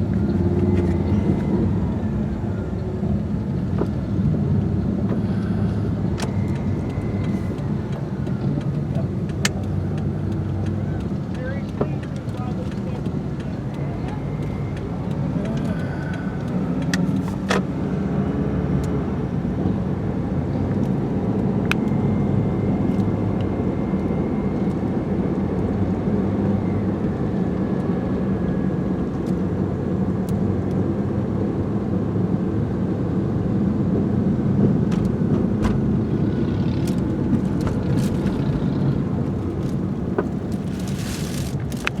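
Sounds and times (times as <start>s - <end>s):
vehicle engine rumbling: 0.0s - 42.0s.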